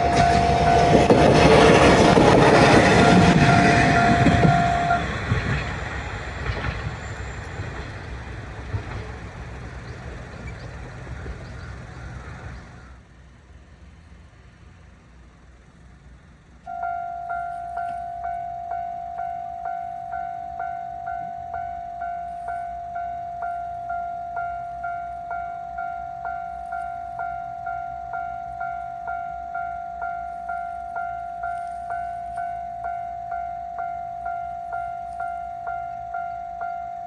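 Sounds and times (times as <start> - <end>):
railroad crossing warning bell: 0.0 - 12.6, 16.6 - 37.0
train rumble: 0.0 - 37.0.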